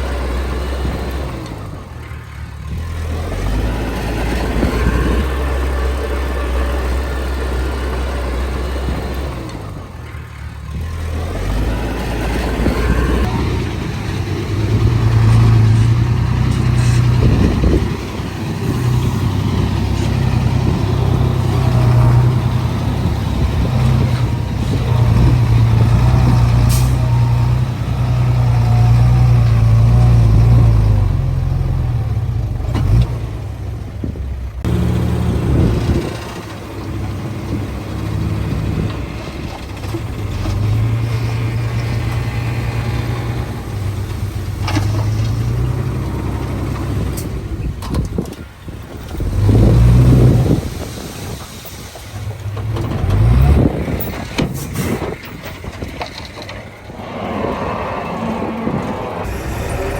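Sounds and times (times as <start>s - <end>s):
heavy diesel engine working: 0.0s - 59.9s.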